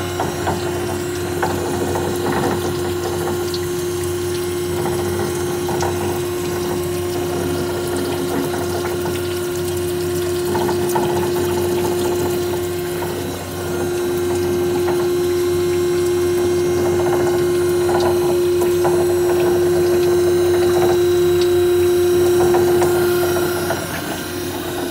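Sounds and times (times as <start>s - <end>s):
machine hum: 0.0s - 24.9s.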